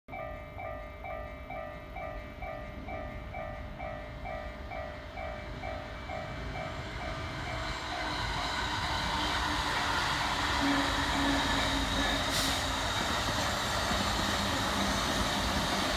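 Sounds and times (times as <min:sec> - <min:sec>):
train wheels on rails: 0:00.2 - 0:15.9.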